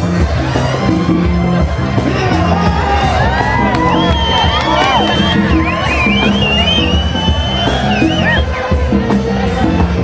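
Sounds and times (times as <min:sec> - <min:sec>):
crowd voices: 0:00.0 - 0:10.0
loud music with bass and beat: 0:00.0 - 0:10.0.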